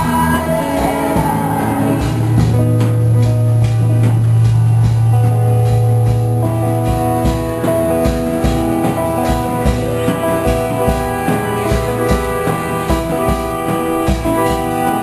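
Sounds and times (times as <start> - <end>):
live band playing instrumental: 0.0 - 15.0
steady drum beat: 0.0 - 15.0.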